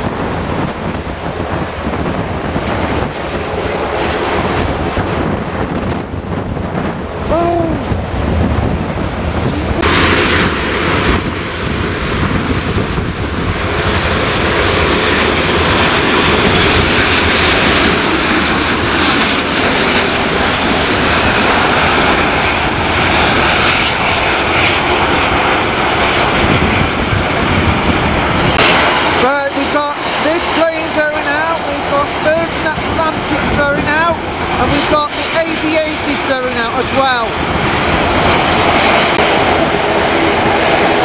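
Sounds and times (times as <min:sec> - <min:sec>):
jet engine rushing: 0:00.0 - 0:41.0.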